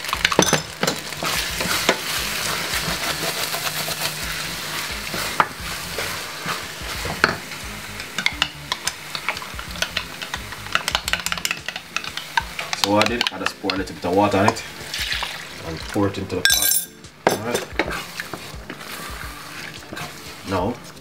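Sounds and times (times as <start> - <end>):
food sizzling in a saucepan: 0.0 - 21.0
wooden spoon scraping a pan: 0.7 - 16.4, 17.3 - 21.0.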